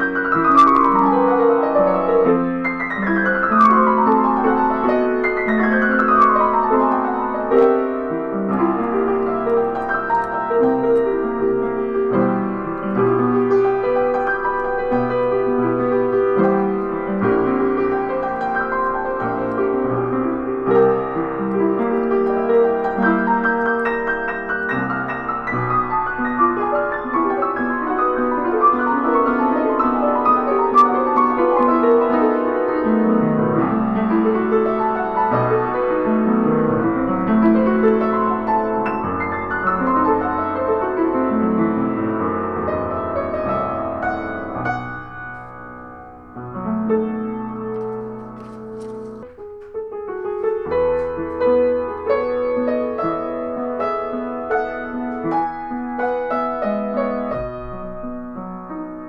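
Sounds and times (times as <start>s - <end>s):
upright piano playing: 0.0s - 59.0s.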